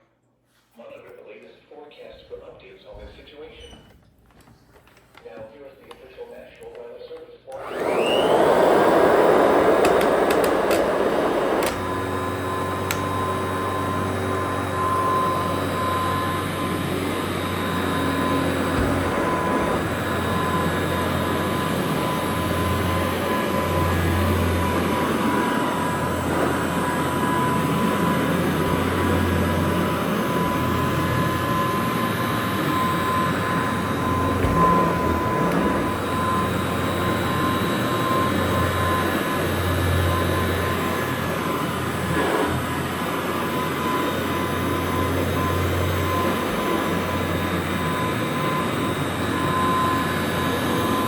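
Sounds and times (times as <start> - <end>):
vacuum cleaner motor running: 7.5 - 51.0.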